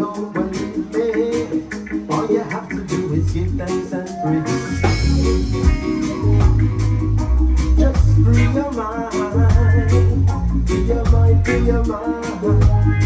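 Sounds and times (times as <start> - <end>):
live band playing: 0.0 - 13.0
pulsing bass line: 0.0 - 13.0.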